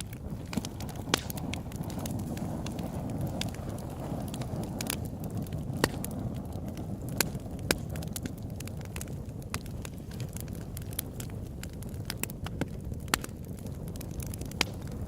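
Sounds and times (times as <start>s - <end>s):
campfire crackling and popping: 0.0s - 15.0s
steady low rumble: 0.0s - 15.0s.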